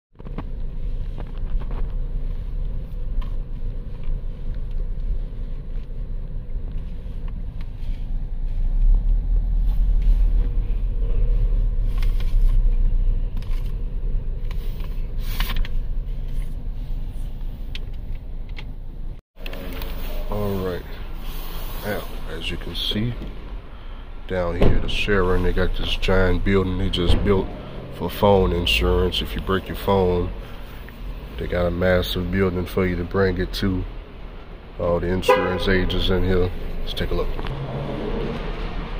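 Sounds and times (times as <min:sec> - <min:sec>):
car engine and road rumble: 0:00.2 - 0:38.9.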